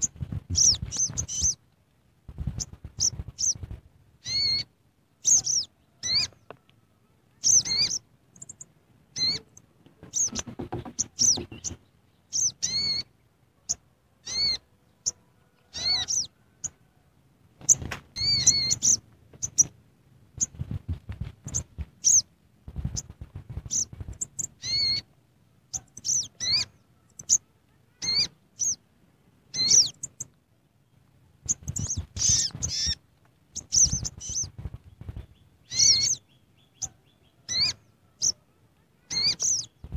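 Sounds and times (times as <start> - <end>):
bird chirping: 0.0 - 1.7, 2.4 - 16.9, 17.6 - 19.8, 20.4 - 28.8, 29.5 - 39.9.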